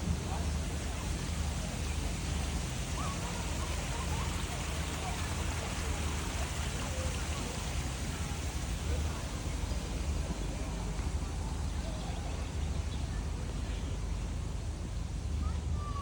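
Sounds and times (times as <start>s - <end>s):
faint distant voices: 0.0s - 16.0s
steady outdoor rushing noise: 0.0s - 16.0s.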